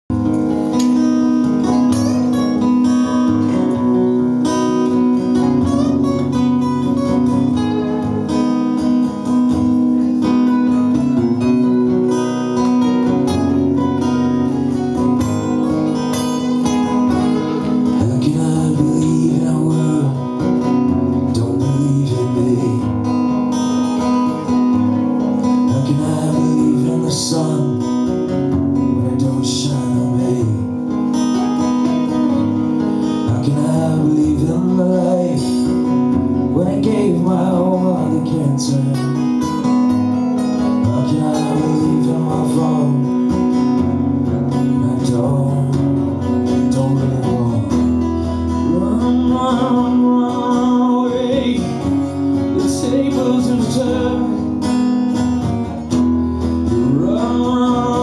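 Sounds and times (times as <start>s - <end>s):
acoustic guitar strumming: 0.1s - 58.0s.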